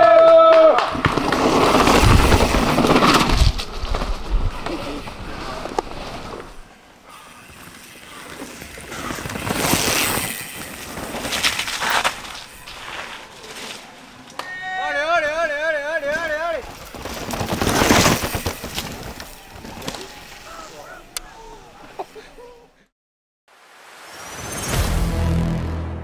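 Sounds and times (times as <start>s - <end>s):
bike tyres skidding on dirt: 0.0s - 21.0s.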